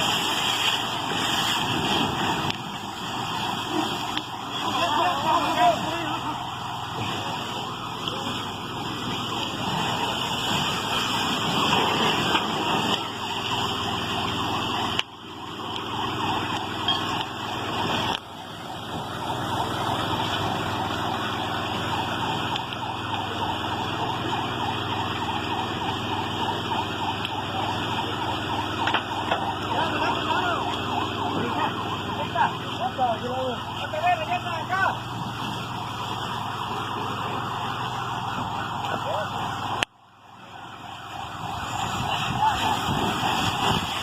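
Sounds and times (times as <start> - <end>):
siren wailing: 0.0 - 44.0.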